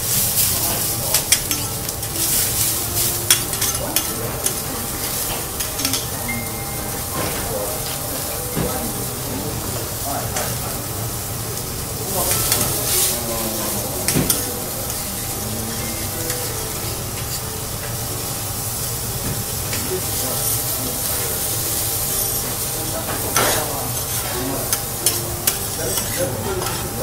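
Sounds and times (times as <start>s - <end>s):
meat and sprouts sizzling on griddle: 0.0s - 27.0s.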